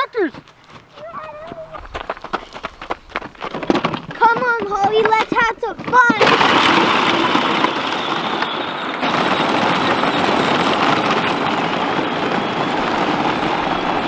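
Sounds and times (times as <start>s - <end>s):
plastic wheels crunching on gravel: 0.2s - 14.0s.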